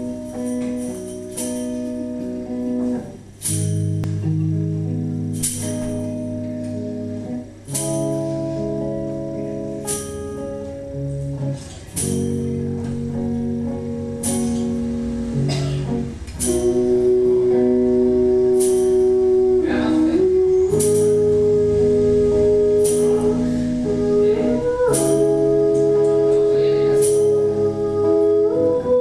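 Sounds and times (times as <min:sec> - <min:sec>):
acoustic guitar strummed chords: 0:00.0 - 0:29.0.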